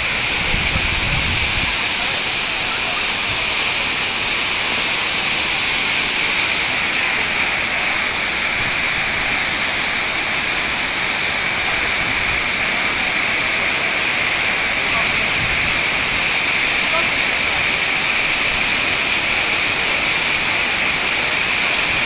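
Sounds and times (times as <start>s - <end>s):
waterfall rushing onto rocks: 0.0s - 22.0s.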